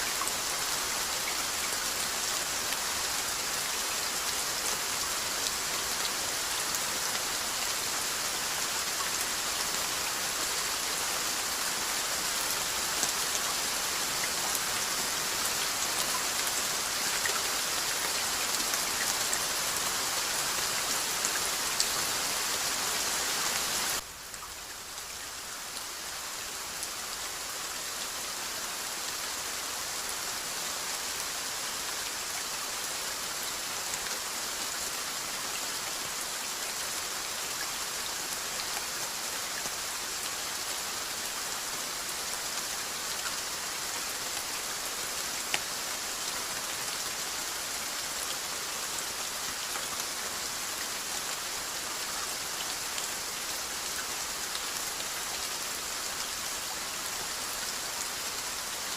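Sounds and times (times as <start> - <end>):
rainfall hissing: 0.0 - 58.9.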